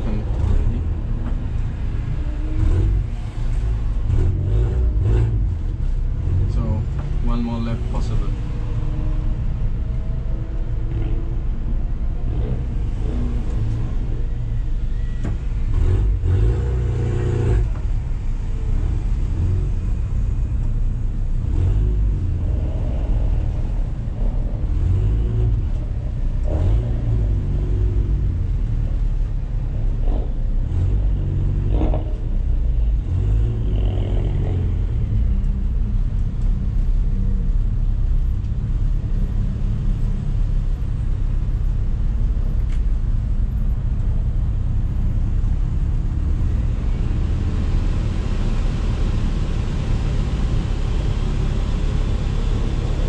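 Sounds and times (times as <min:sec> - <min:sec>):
car engine running at low revs: 0:00.0 - 0:53.0.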